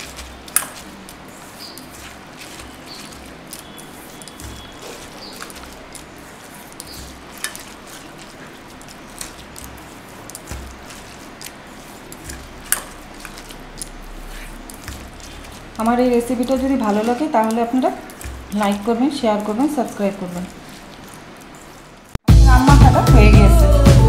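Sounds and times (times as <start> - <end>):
wet squishing of kneading: 0.0 - 22.2.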